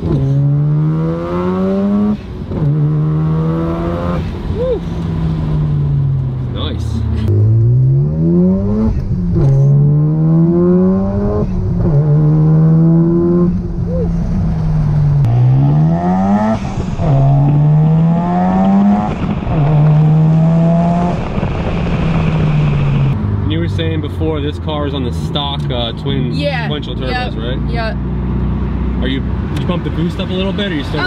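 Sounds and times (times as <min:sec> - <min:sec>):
rotary engine accelerating: 0:05.1 - 0:31.0.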